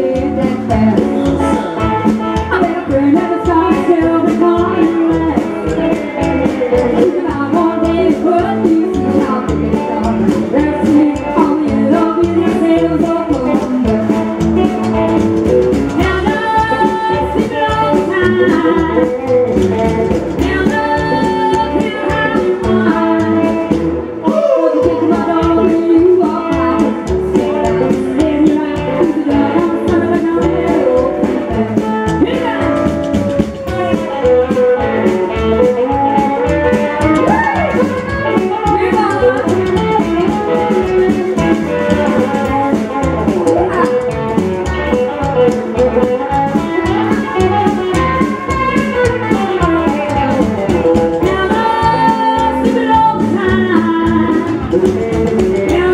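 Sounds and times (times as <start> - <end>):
woman singing: 0.0 - 14.8, 15.9 - 55.9
live band playing: 0.0 - 55.9.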